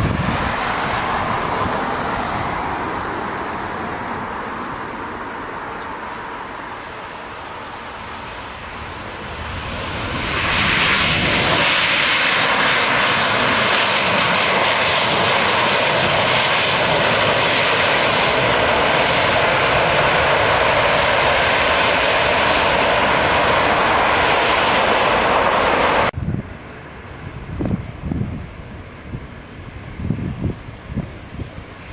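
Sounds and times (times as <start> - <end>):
jet airliner engine rush: 0.0 - 31.9.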